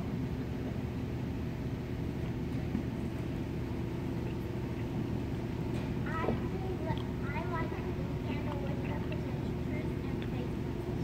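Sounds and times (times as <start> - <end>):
drum fan humming: 0.0 - 11.0.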